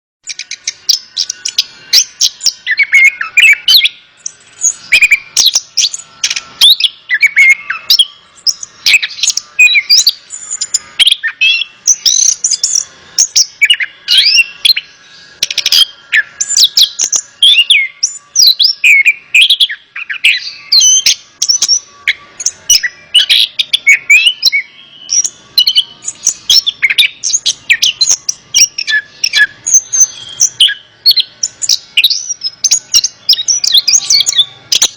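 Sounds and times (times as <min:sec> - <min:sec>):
thrush singing: 0:00.2 - 0:34.9.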